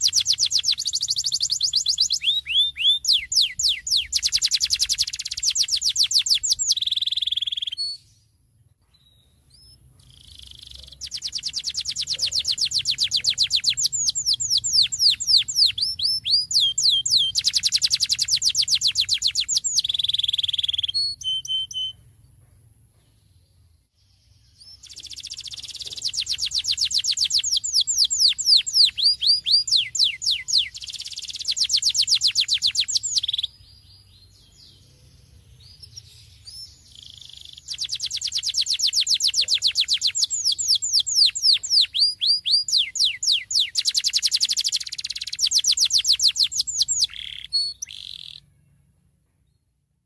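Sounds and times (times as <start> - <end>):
canary singing: 0.0 - 8.2, 9.0 - 22.1, 24.4 - 48.8.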